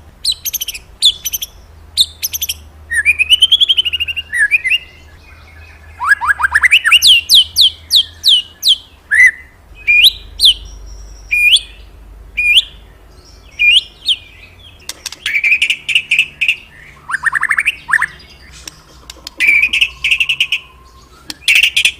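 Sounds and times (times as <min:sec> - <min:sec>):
songbird whistles and chirps: 0:00.2 - 0:21.9.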